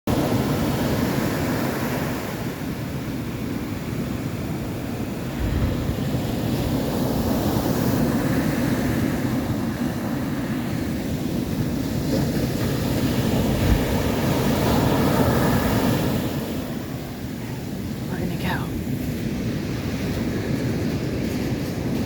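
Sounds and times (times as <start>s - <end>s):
waves breaking: 0.1s - 22.0s
wind buffeting microphone: 0.1s - 22.0s.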